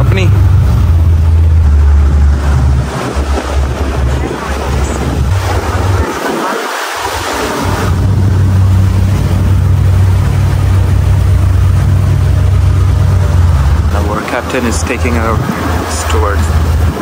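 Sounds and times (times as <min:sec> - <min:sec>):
boat engine droning: 0:00.0 - 0:17.0
water and wind rushing: 0:00.0 - 0:17.0.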